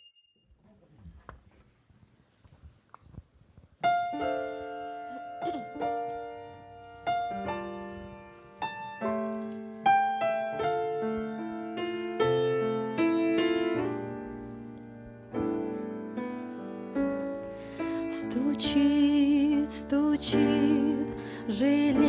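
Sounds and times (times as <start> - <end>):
piano chords: 3.9 - 22.0.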